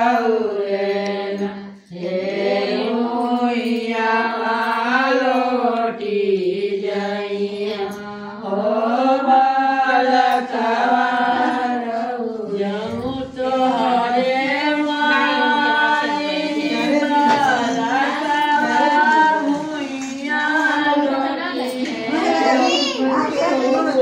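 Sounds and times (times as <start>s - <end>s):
women singing devotional song: 0.0s - 24.0s.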